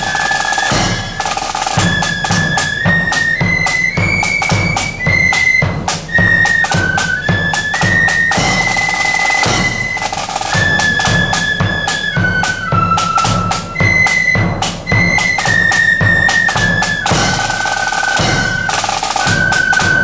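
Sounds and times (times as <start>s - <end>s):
bass and snare drums: 0.0s - 20.0s
flute melody: 0.0s - 20.0s.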